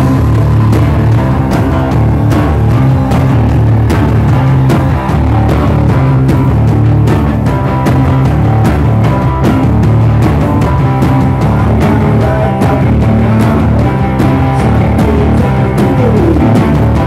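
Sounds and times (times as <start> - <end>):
heavy low guitar riff: 0.0 - 17.0
steady drum hits: 0.0 - 17.0.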